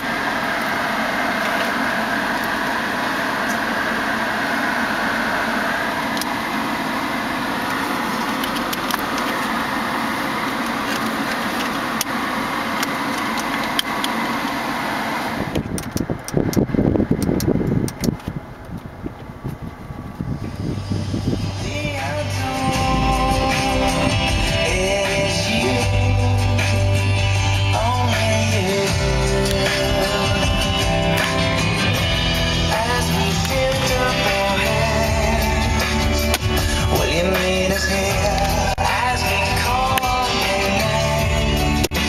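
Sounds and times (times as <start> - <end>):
blower fan hissing: 0.0 - 42.0.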